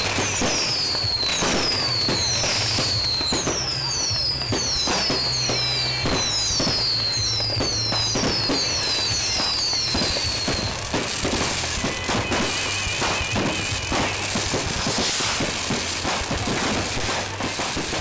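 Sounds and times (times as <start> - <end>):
fireworks bangs and crackles: 0.0 - 18.0
high falling firework whistle: 0.0 - 18.0.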